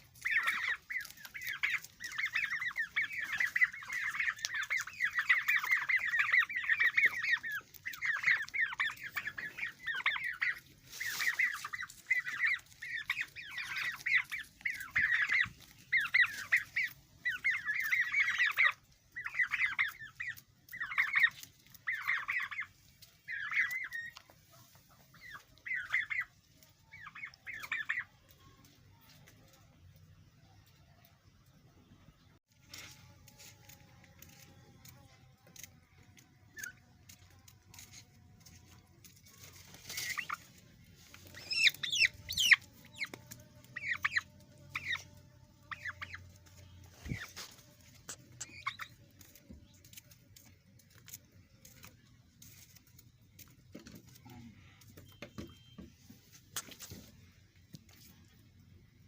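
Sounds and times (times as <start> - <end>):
turkey poults peeping: 0.0 - 59.0.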